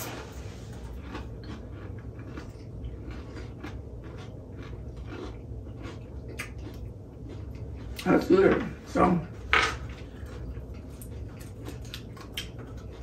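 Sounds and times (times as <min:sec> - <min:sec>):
chewing crunchy snacks: 0:00.0 - 0:13.0.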